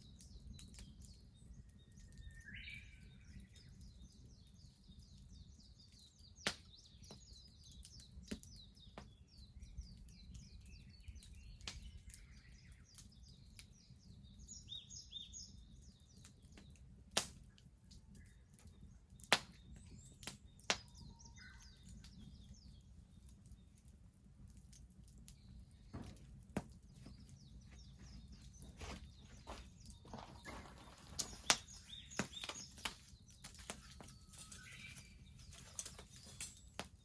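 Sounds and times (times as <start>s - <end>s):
small birds chirping: 0.0s - 37.0s
wood fire crackling and popping: 0.0s - 37.0s.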